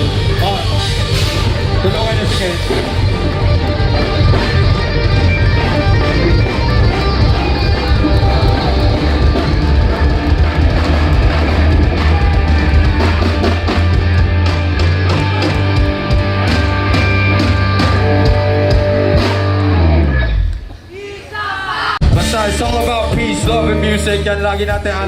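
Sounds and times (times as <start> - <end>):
low bass: 0.0 - 20.6, 22.0 - 25.0
distorted electric guitars: 0.0 - 20.9, 22.0 - 25.0
drums: 0.0 - 25.0.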